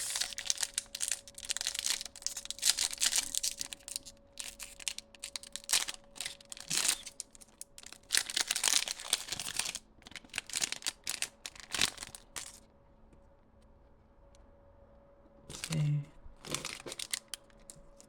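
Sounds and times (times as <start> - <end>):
foil wrapper crinkling and tearing: 0.0 - 12.6, 15.5 - 15.8, 16.4 - 18.0.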